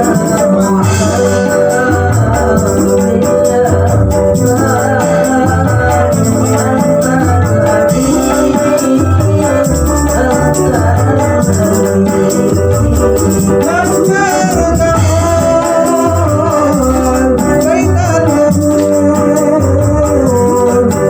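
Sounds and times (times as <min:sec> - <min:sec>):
frame drums beating: 0:00.0 - 0:21.0
wavering melody: 0:00.0 - 0:21.0.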